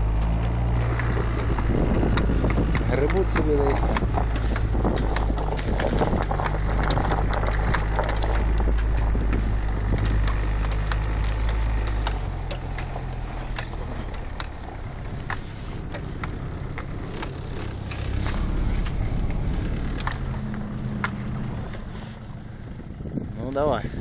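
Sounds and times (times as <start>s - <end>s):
snow chains crunching snow: 0.0s - 22.8s
vehicle engine under load: 0.0s - 24.0s.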